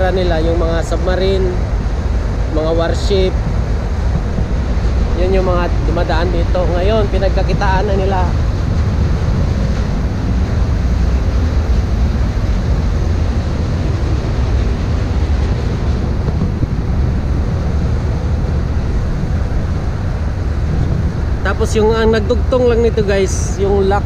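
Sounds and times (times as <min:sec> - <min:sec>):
ship engine low rumble: 0:00.0 - 0:24.0
wake washing: 0:00.0 - 0:24.0
wind buffeting microphone: 0:00.0 - 0:24.0.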